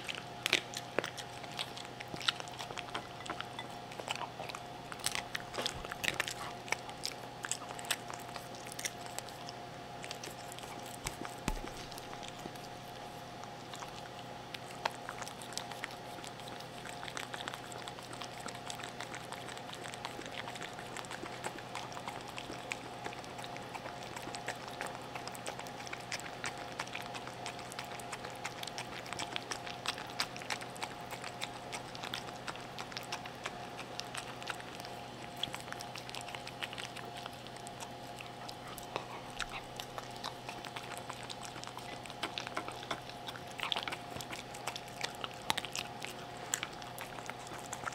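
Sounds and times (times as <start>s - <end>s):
dog licking and chewing food: 0.0s - 47.9s
faint steady hum: 0.0s - 47.9s.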